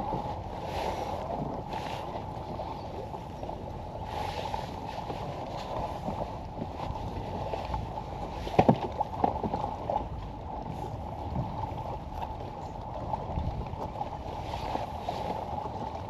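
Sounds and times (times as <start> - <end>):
water lapping against kayak hull: 0.0 - 16.0.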